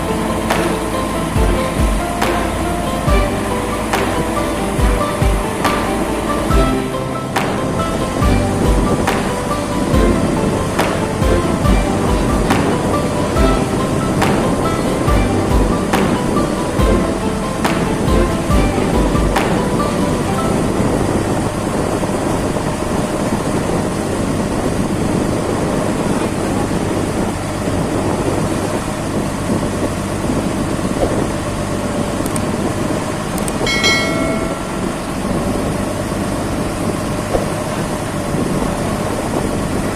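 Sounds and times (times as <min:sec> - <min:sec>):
ferry engine low rumble: 0:00.0 - 0:39.9.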